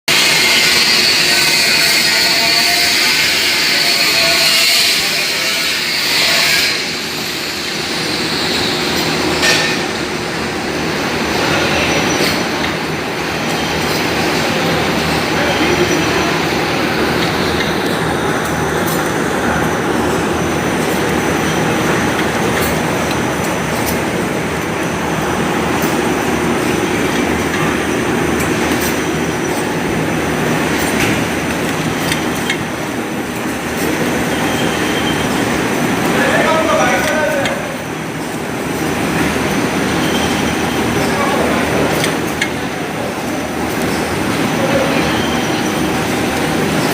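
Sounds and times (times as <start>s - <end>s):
sharp machine clack: 0.1s - 46.9s
packaging machine running: 6.0s - 46.9s.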